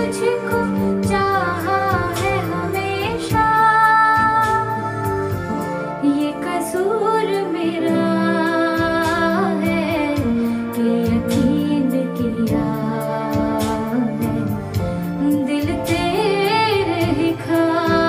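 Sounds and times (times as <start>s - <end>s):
instrumental backing track: 0.0s - 18.0s
woman singing: 0.0s - 18.0s.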